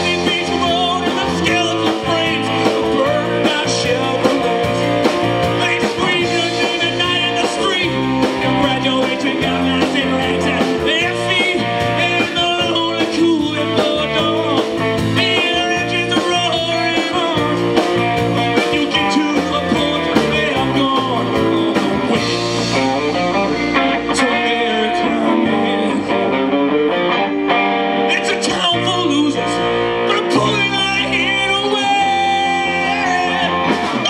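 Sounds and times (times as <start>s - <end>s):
singer's wordless vocals: 0.0s - 26.6s, 28.1s - 34.0s
guitar: 0.0s - 34.0s
live rock band playing: 0.0s - 34.0s.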